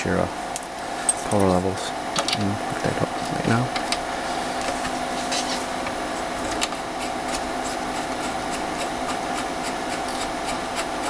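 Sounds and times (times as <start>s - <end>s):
fan hum: 0.0s - 11.0s
steady whine: 0.0s - 11.0s.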